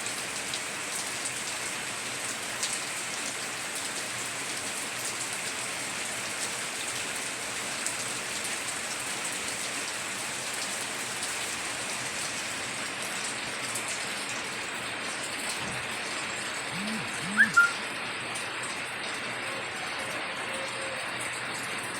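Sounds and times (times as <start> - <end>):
heavy rain on a tiled roof: 0.0 - 16.8, 17.8 - 21.9.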